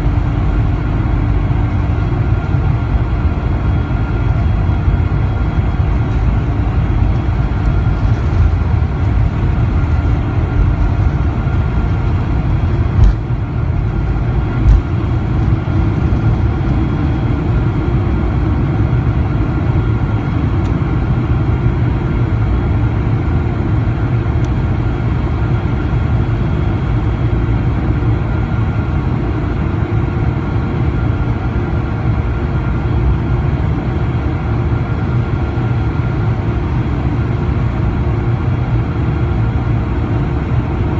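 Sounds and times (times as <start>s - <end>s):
jet engines roaring with whine: 0.0s - 40.9s.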